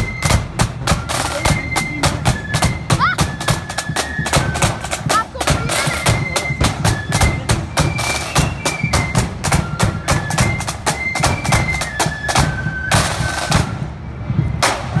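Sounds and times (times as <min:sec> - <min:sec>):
snare drums rattling: 0:00.0 - 0:13.8
wind instrument melody: 0:00.0 - 0:15.0.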